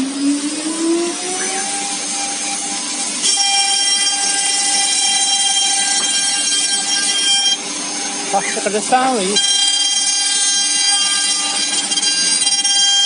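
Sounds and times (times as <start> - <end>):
cnc router spindle whine: 0.0 - 13.0
high multi-tone whine: 0.0 - 13.0.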